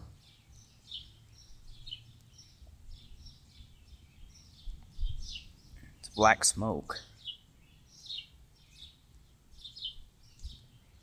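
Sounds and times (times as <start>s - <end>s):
small birds twittering: 0.0s - 11.0s.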